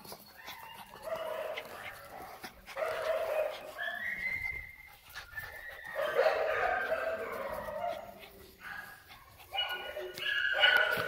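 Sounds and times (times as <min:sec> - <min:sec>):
puppies whining: 0:00.0 - 0:11.0.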